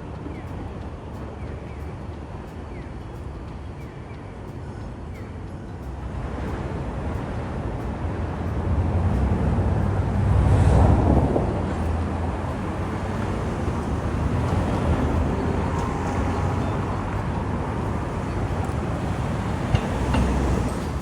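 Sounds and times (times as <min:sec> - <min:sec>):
street traffic rumbling: 0:00.0 - 0:21.0.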